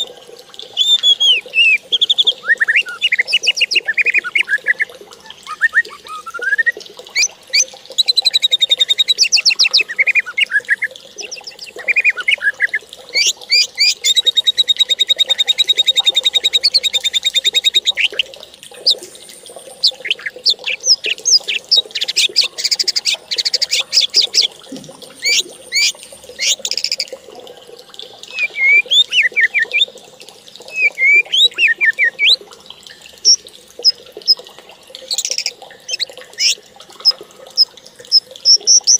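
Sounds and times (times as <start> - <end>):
bird trilling and chirping: 0.6 - 18.2, 19.7 - 24.5, 25.2 - 27.1, 28.3 - 29.8, 30.7 - 32.4, 35.1 - 38.9.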